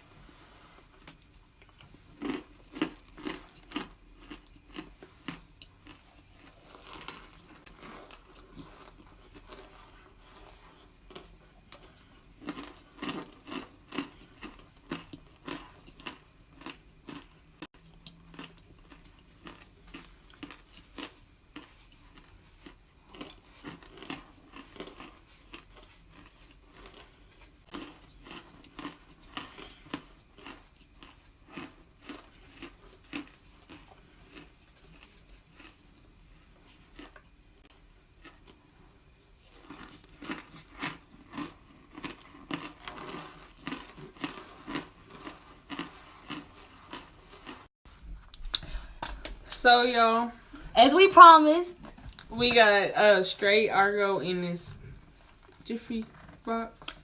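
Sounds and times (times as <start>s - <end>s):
crunchy food being chewed: 0.0s - 49.6s, 51.8s - 52.6s, 54.7s - 57.0s.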